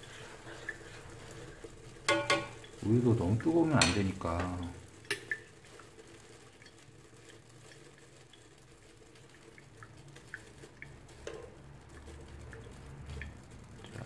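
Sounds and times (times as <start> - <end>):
drips and pops of hot liquid: 0.0 - 14.0.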